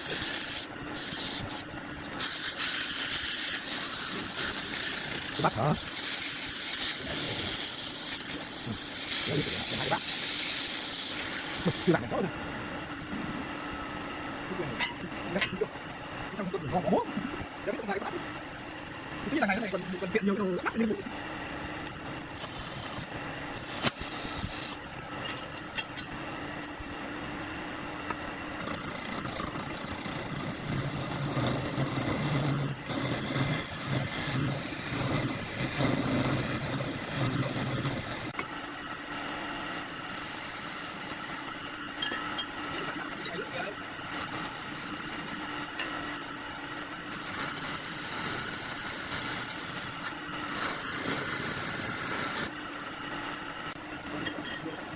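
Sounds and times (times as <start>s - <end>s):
motor humming: 0.0s - 52.5s.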